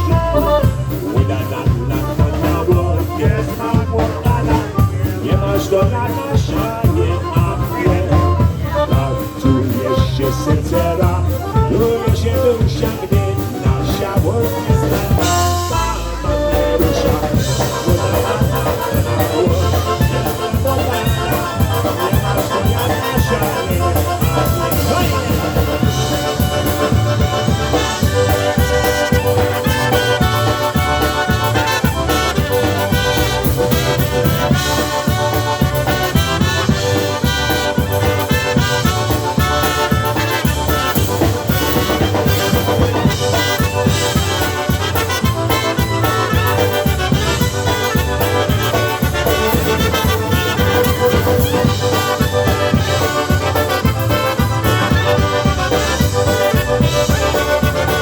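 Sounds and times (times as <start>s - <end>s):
polka band playing: 0.0s - 58.0s
steady bass beat: 0.0s - 58.0s.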